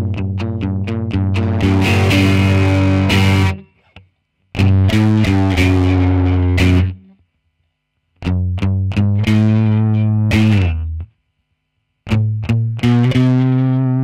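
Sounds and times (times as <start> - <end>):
distorted electric guitar riffs: 0.0 - 7.2, 8.2 - 11.1, 12.0 - 14.0.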